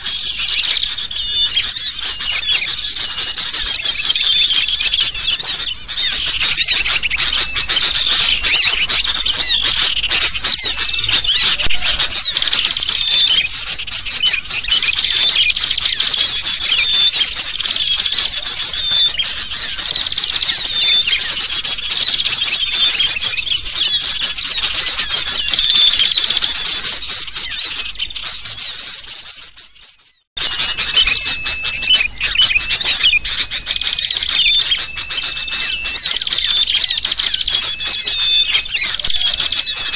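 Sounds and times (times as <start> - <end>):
bulbuls calling noisily: 0.0 - 39.9
chatter of small birds: 0.0 - 39.9.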